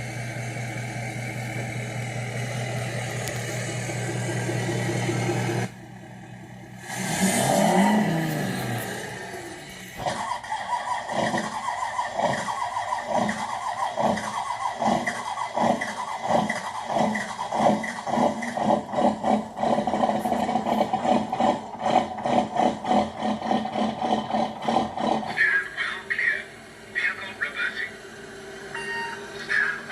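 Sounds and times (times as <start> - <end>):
diesel engine sound effect: 0.0 - 29.9.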